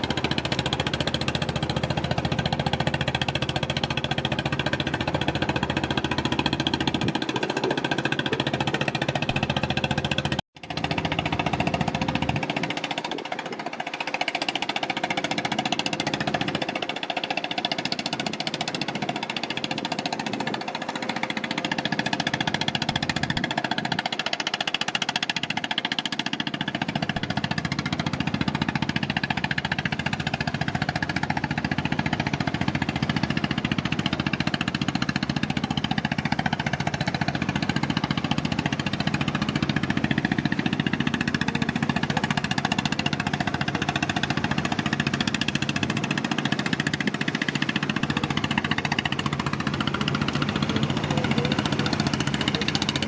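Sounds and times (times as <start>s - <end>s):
boat engine knocking: 0.0s - 53.0s.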